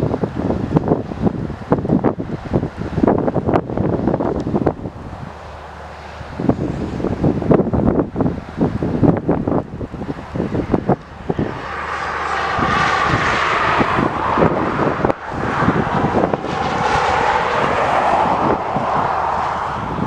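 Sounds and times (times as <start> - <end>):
airliner engines passing: 0.0 - 20.0
wind buffeting microphone: 0.0 - 20.0.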